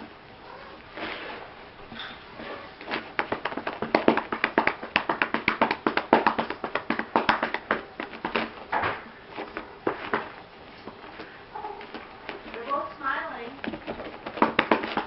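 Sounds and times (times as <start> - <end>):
hand patting cat fur: 2.4 - 13.0, 13.6 - 15.0.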